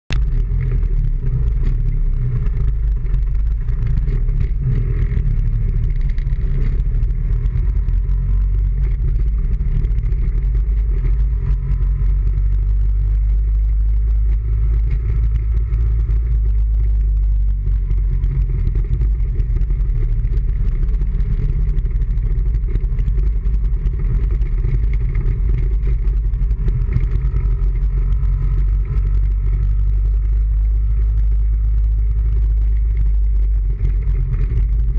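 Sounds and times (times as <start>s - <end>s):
vehicle driving rumble: 0.0s - 34.9s.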